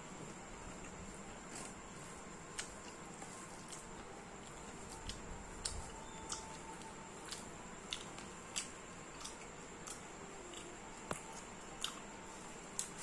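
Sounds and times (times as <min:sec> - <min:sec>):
fingers mixing rice: 0:00.0 - 0:13.0
wet chewing and smacking: 0:00.4 - 0:12.1.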